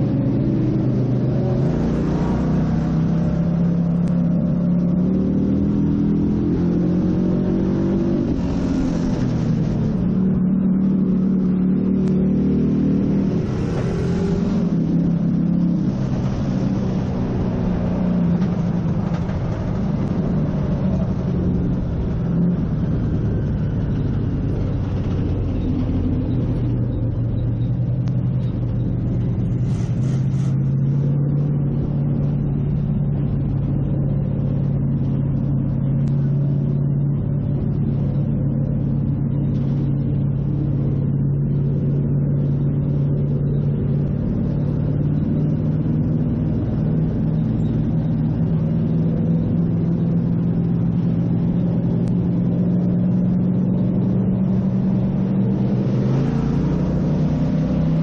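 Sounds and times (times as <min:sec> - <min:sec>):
race car engine running: 0:00.0 - 0:58.0.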